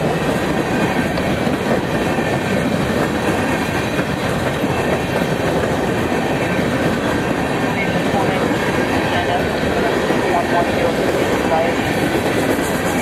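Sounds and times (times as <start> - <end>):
freight train wheels clattering on rails: 0.0 - 13.0.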